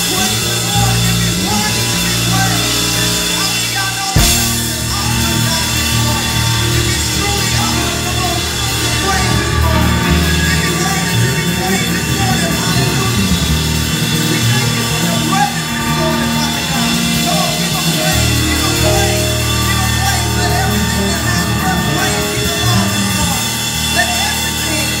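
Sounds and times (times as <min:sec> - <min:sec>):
drum kit with cymbals: 0:00.0 - 0:25.0
electric bass guitar: 0:00.0 - 0:25.0
held instrument tones: 0:00.0 - 0:25.0.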